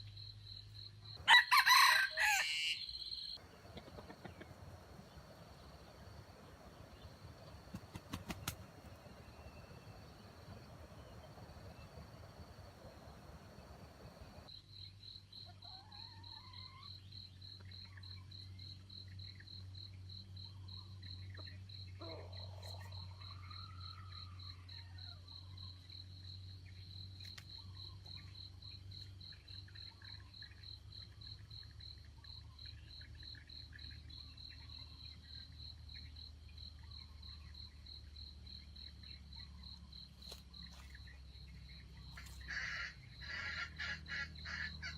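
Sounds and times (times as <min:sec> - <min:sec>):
insect chirping: 0:00.0 - 0:44.9.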